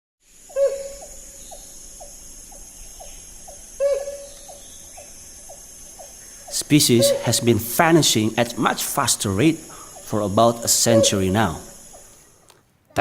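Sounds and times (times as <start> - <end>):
high insect drone: 0.2 - 12.6
loud bird call: 0.5 - 1.8, 2.6 - 12.4
short falling bird calls: 0.5 - 12.6.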